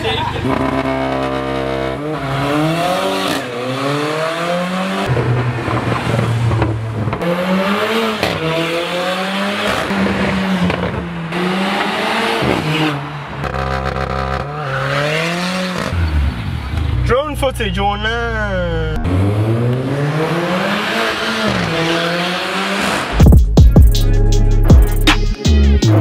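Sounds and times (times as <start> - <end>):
car engine revving and accelerating: 0.0 - 17.0, 19.0 - 23.3.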